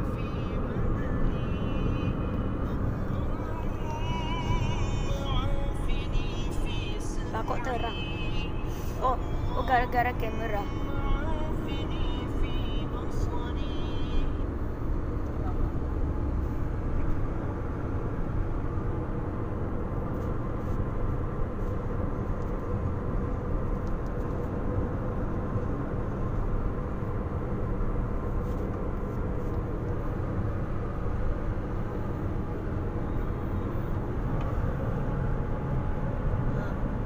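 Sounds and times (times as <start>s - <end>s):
car engine and tyre noise: 0.0s - 37.0s.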